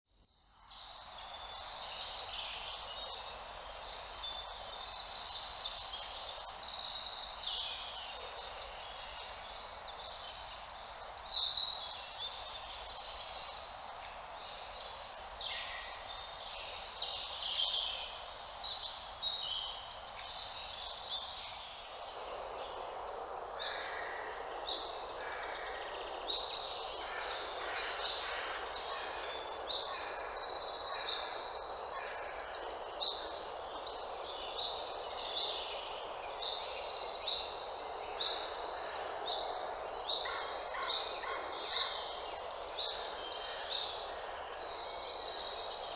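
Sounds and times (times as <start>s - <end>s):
birds chirping and trilling: 0.9s - 45.9s.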